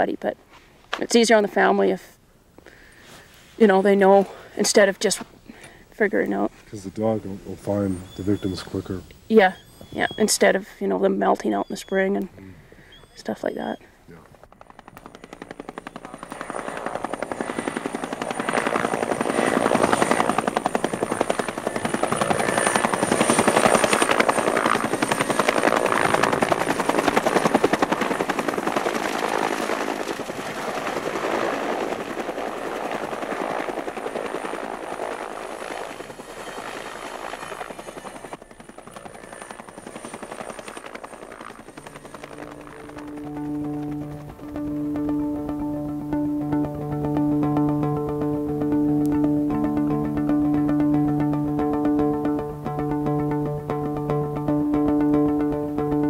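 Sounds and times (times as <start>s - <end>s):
helicopter rotor beating: 5.9s - 56.0s.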